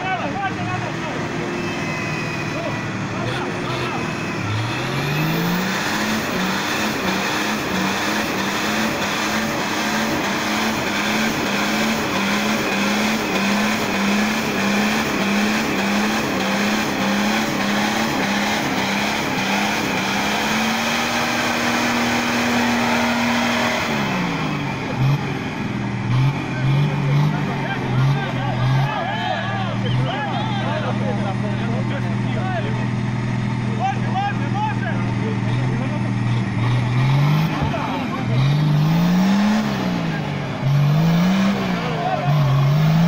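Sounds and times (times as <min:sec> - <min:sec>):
diesel engine at high revs: 0:00.0 - 0:43.0.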